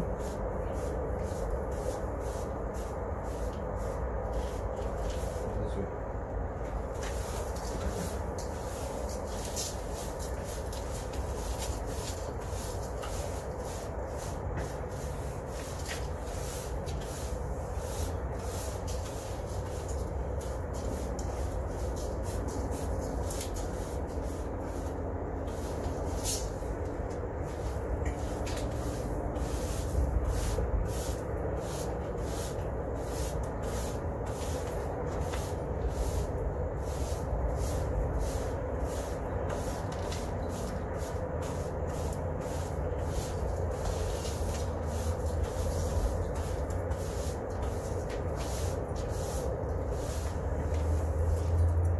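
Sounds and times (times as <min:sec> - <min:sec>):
brooms sweeping concrete: 0:00.0 - 0:51.9.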